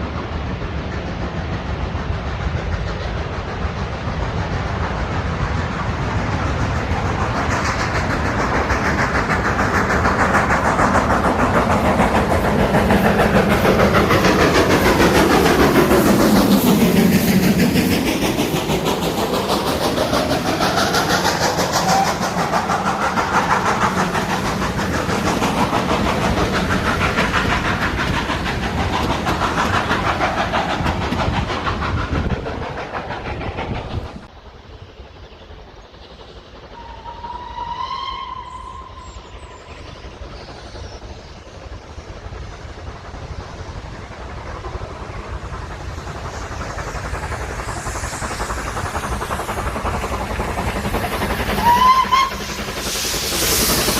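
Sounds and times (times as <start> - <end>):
train rumble and rail clatter: 0.0 - 53.9.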